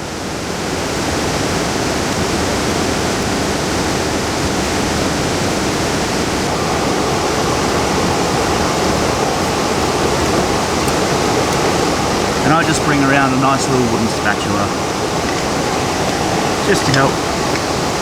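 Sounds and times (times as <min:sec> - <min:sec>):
waterfall rushing: 0:00.1 - 0:18.0.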